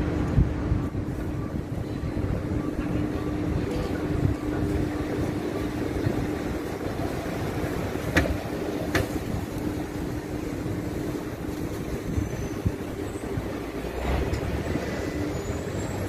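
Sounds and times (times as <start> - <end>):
city traffic: 0.0 - 16.0
streetcar approaching: 0.0 - 16.0.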